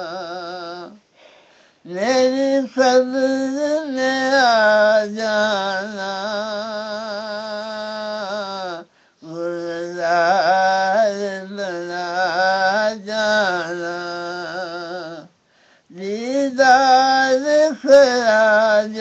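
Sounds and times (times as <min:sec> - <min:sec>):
person singing devotional song: 0:00.0 - 0:19.0.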